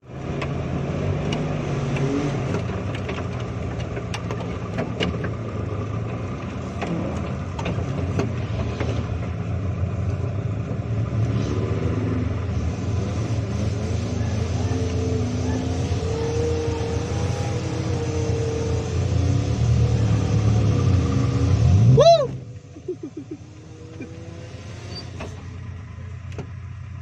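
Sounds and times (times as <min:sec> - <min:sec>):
car engine revving under load: 0:00.0 - 0:27.0.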